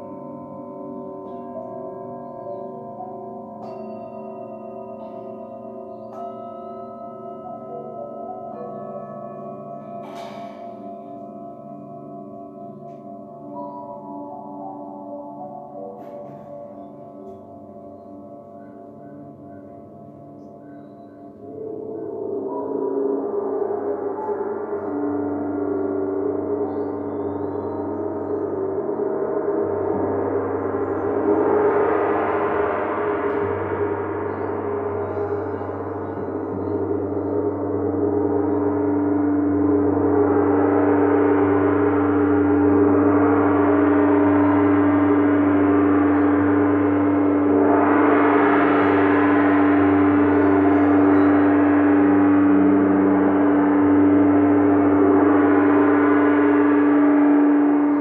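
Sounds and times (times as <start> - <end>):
crystal singing bowls ringing: 0.0 - 58.0.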